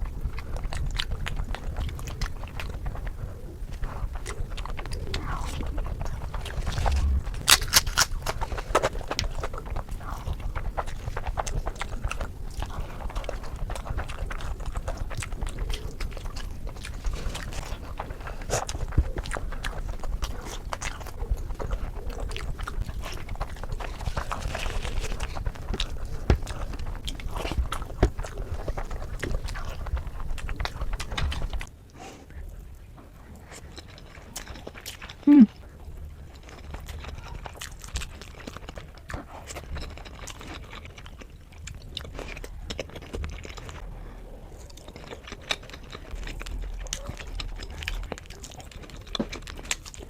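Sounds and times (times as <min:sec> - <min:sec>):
chewing and lip-smacking: 0:00.0 - 0:50.0.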